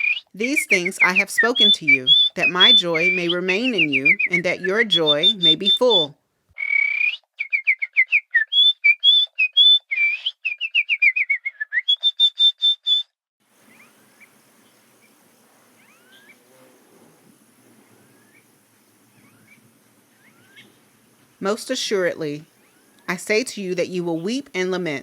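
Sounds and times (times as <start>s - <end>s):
distant bird chirps: 0.0s - 25.0s
songbird singing: 0.0s - 25.0s.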